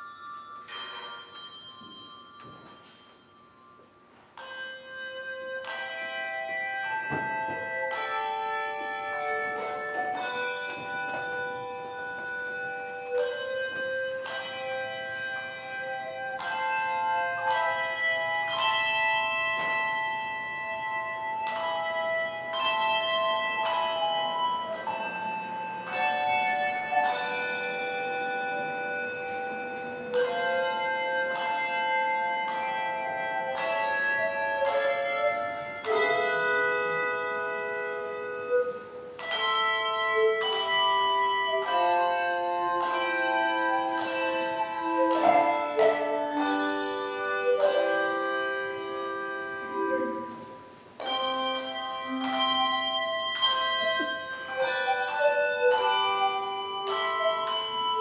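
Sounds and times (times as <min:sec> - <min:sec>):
handbell choir ringing: 0:00.0 - 0:58.0.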